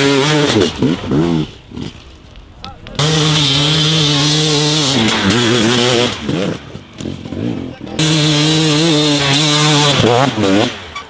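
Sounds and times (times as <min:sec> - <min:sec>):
motorcycle engine revving high: 0:00.0 - 0:02.0, 0:02.9 - 0:11.0.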